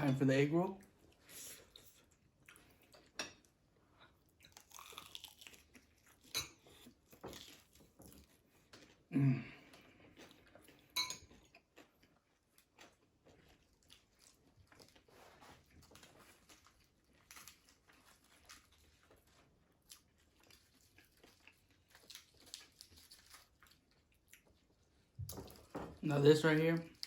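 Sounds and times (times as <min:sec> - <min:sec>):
person chewing crunchy food: 0:00.8 - 0:25.7.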